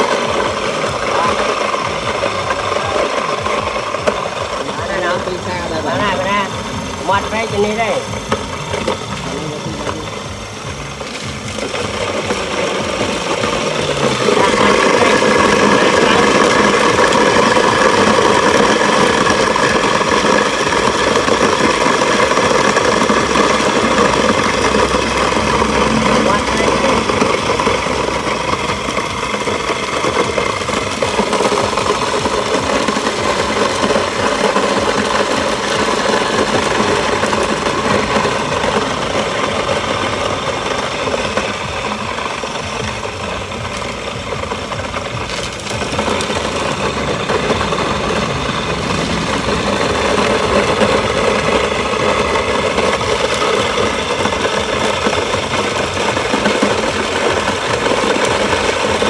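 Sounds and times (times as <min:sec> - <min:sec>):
electric grain mill grinding: 0:00.0 - 0:59.0.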